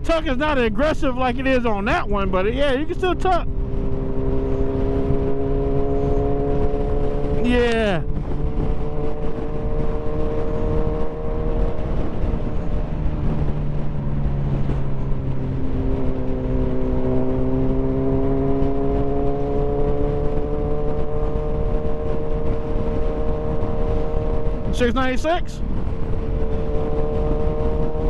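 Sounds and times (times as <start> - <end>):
motorcycle engine running: 0.0 - 28.0
wind rush: 0.0 - 28.0.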